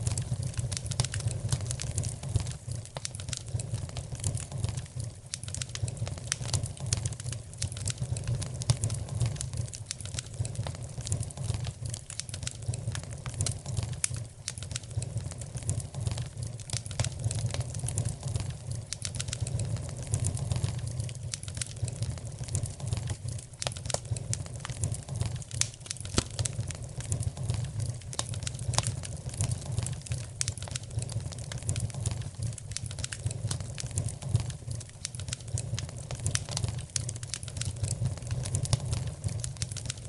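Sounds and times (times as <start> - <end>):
fire low rumble: 0.0 - 40.0
wood fire crackling and popping: 0.0 - 40.0.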